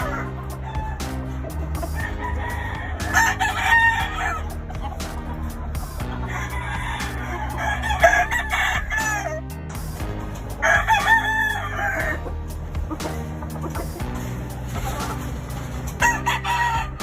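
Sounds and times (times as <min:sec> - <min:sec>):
roosters crowing: 0:00.0 - 0:17.0.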